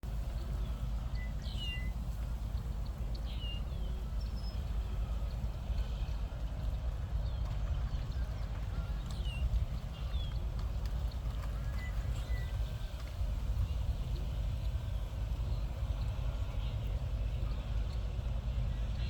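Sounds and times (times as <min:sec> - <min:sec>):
wind buffeting microphone: 0:00.0 - 0:19.0
small birds chirping: 0:00.2 - 0:19.0.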